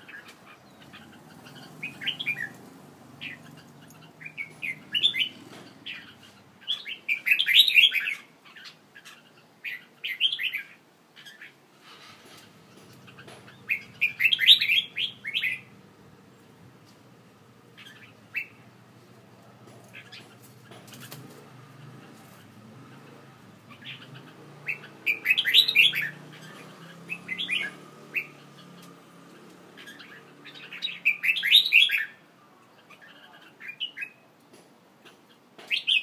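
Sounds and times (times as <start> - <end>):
caged songbird singing: 0.0 - 11.6, 12.2 - 36.0.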